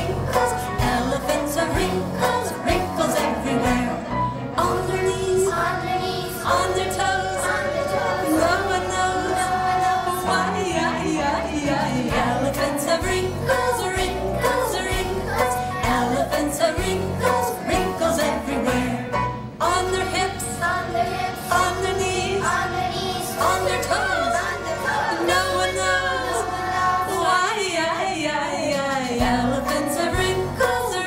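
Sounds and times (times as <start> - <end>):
children's song with singing: 0.0 - 31.0.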